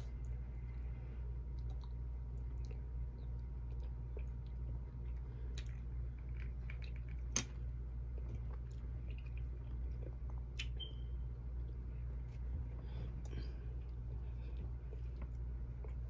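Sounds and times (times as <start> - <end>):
person chewing food: 0.0 - 10.9, 11.5 - 16.0
low hum: 0.0 - 16.0.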